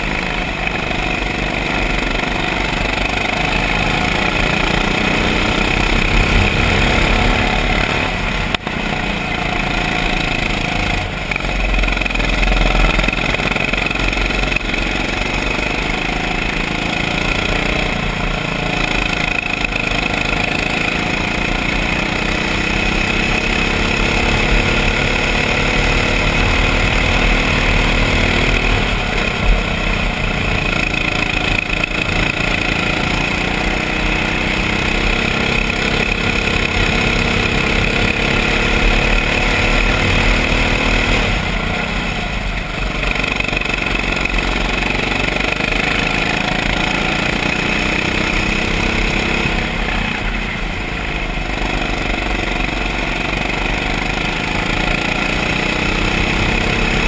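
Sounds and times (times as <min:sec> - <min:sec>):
go-kart engine at full throttle: 0:00.0 - 0:57.0.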